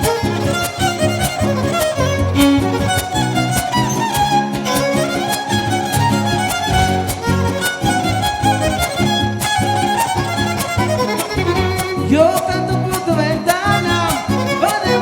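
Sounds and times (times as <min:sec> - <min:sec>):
strummed guitar chords: 0:00.0 - 0:15.0
violin melody: 0:00.0 - 0:15.0.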